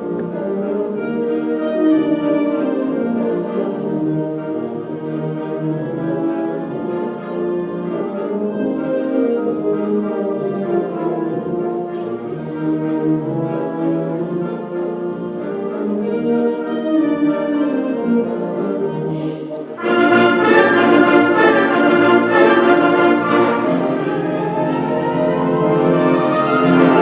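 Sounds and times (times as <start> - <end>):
orchestral music led by brass: 0.0 - 27.0.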